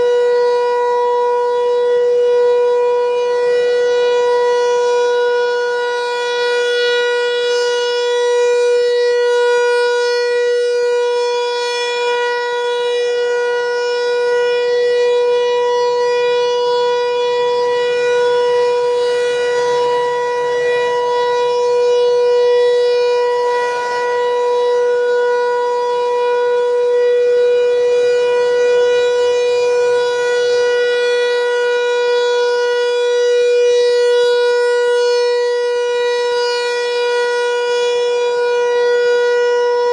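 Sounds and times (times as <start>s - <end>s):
electromechanical warning siren: 0.0s - 39.9s.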